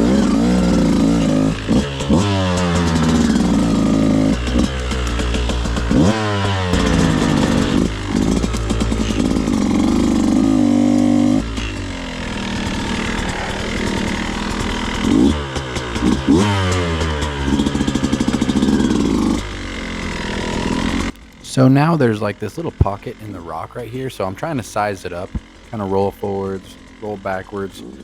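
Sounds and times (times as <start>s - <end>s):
dirt bike engine running: 0.0s - 28.0s
engine throttle blips: 0.0s - 28.0s.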